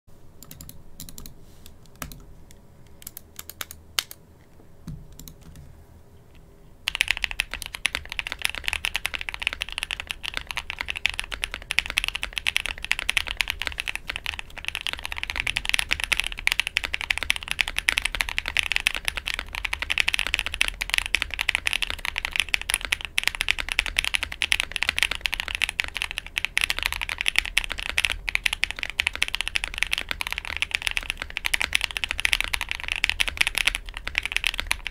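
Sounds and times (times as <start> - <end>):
fast mechanical keyboard typing: 0.4 - 1.3, 3.0 - 4.2, 6.9 - 34.9
keyboard clicks: 0.4 - 2.3, 2.9 - 4.2, 4.9 - 5.7, 6.9 - 34.9.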